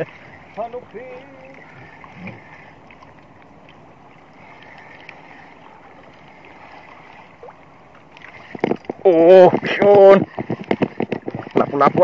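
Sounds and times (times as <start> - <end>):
waves washing against boat: 0.0 - 12.0
wind: 0.0 - 12.0.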